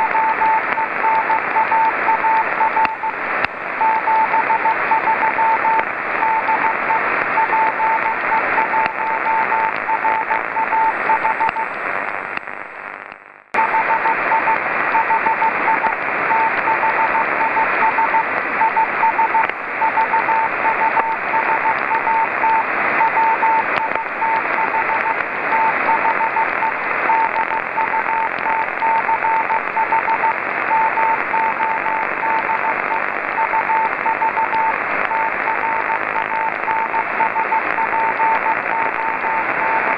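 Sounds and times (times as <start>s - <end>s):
morse code tone: 0.0s - 3.2s, 3.8s - 11.8s, 13.6s - 39.9s
receiver hiss: 0.0s - 39.9s.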